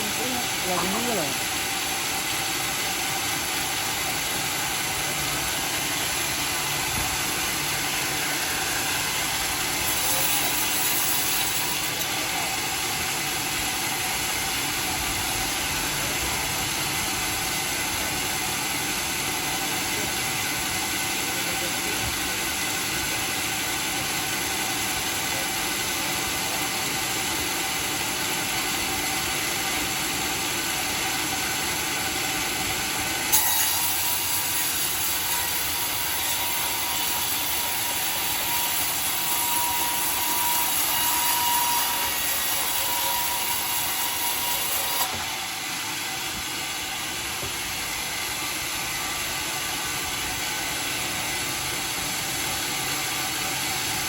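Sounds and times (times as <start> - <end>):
saw blade cutting wood: 0.0 - 54.0
sawmill running: 0.0 - 54.0.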